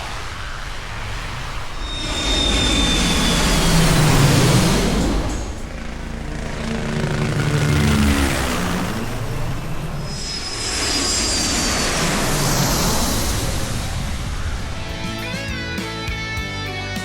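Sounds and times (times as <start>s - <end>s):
airplane engine drone: 0.0s - 15.9s
high engine whine: 0.0s - 16.0s.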